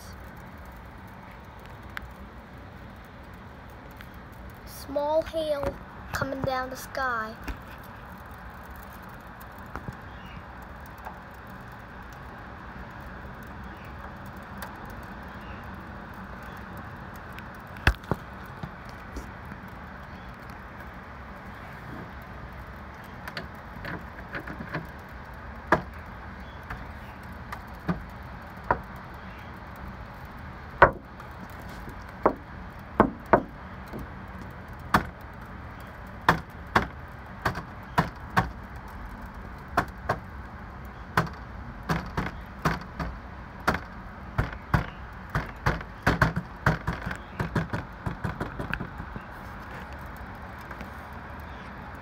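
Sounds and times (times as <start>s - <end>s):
low background noise: 0.0s - 52.0s
ice pellets ticking on ledge: 0.1s - 52.0s.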